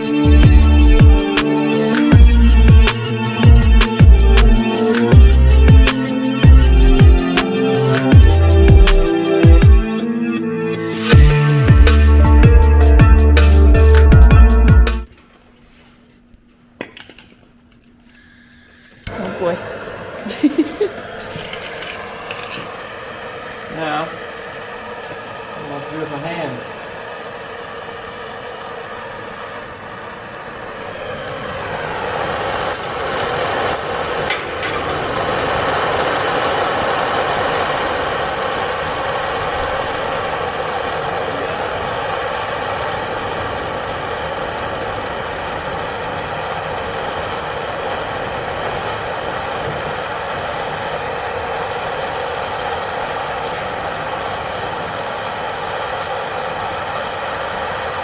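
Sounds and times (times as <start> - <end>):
motor running steadily: 0.0 - 9.8, 11.0 - 14.8, 19.1 - 58.0.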